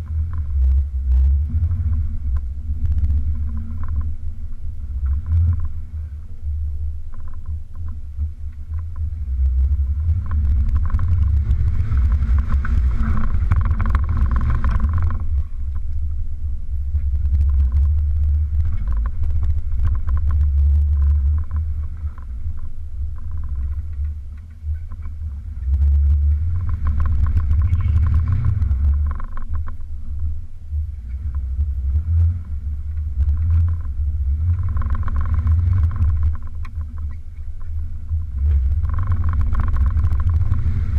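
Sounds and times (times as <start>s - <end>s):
engine rumbling and revving: 0.0s - 40.9s.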